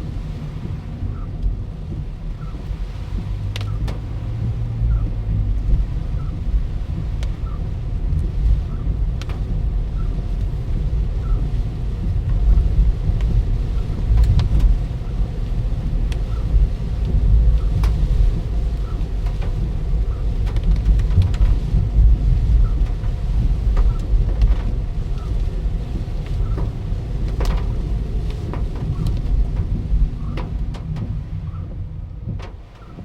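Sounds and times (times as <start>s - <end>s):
gusty wind on microphone: 0.0s - 33.0s
sharp ticks of raindrops: 0.0s - 33.0s.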